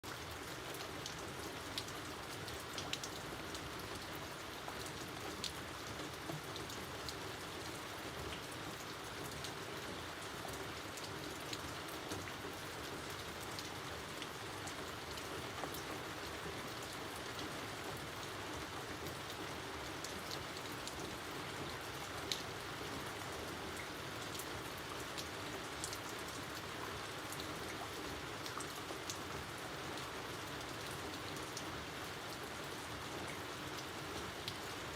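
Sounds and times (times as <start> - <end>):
rain falling: 0.0 - 34.9
raindrops ticking on a surface: 0.0 - 34.9.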